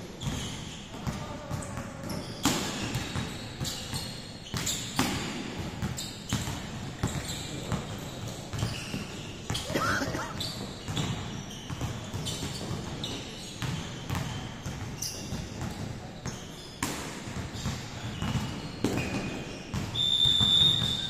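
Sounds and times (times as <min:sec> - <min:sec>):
short shoe squeaks: 0:00.2 - 0:01.3, 0:02.0 - 0:05.0, 0:05.9 - 0:16.9, 0:17.6 - 0:21.0
basketballs bouncing on gym floor: 0:00.2 - 0:21.0.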